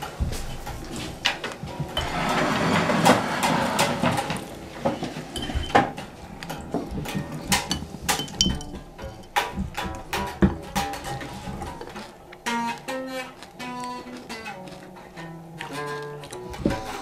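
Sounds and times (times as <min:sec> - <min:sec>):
utensils and crockery clinking: 0:00.0 - 0:17.0.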